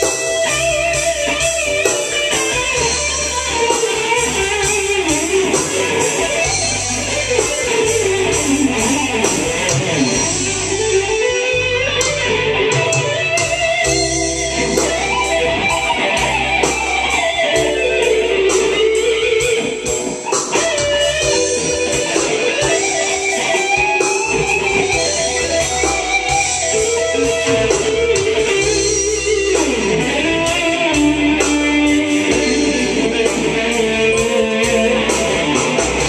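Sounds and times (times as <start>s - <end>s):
bass: 0.0s - 36.0s
drums: 0.0s - 36.0s
electric guitar lead: 0.0s - 36.0s.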